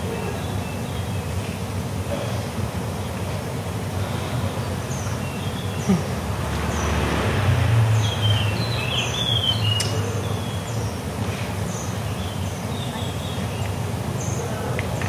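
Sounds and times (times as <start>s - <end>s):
small birds chirping: 0.0s - 7.1s, 7.8s - 15.0s.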